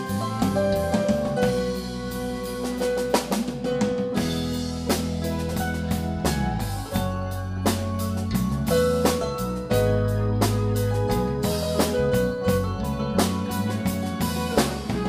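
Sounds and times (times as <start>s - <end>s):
drum kit hits: 0.0s - 15.0s
electric bass: 0.0s - 15.0s
electric guitar: 0.0s - 15.0s
keyboards sustained notes: 0.0s - 15.0s.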